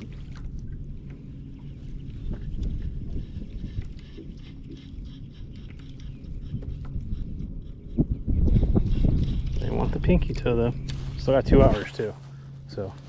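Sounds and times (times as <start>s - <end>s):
wind rumble: 0.0s - 12.8s
water around kayak: 0.0s - 12.9s.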